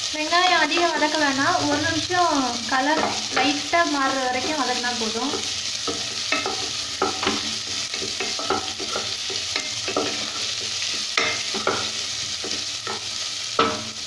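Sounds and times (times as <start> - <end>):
onions sizzling in hot oil: 0.0 - 14.0
wooden spatula scraping a pan: 0.6 - 14.0.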